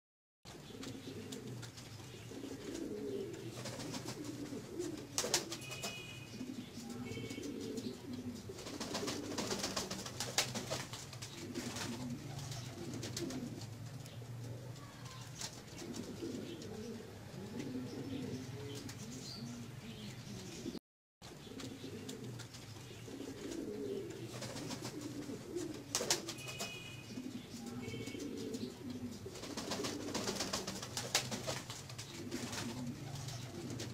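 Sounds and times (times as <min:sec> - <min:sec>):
pigeons cooing: 0:00.5 - 0:33.9.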